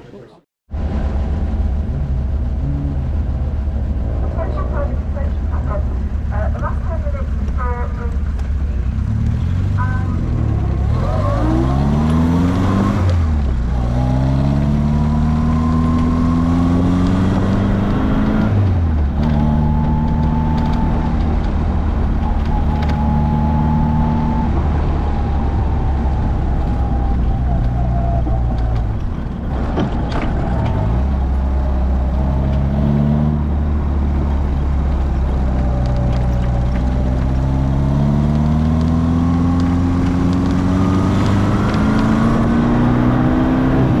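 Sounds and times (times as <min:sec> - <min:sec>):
sports car engine accelerating hard: 0:08.1 - 0:44.0.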